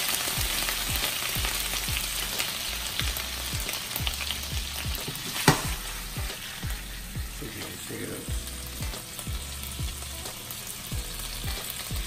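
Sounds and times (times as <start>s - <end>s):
water sizzling in frying pan: 0.0s - 12.0s.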